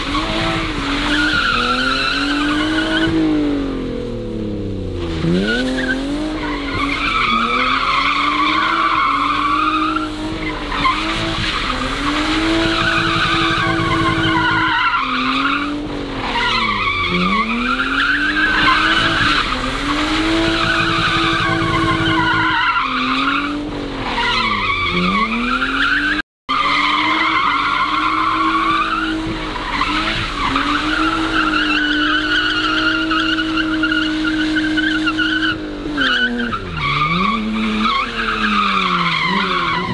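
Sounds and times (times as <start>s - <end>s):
tyres squealing and skidding: 0.0s - 3.4s, 5.0s - 39.9s
car engine revving: 0.0s - 39.9s.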